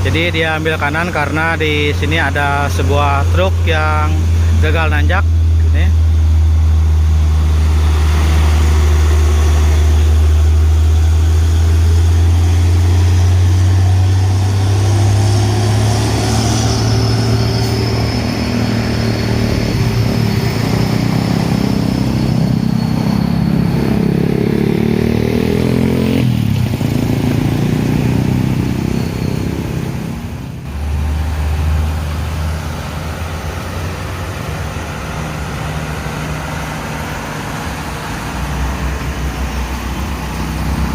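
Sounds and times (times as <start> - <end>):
truck diesel engine labouring: 0.0 - 40.9.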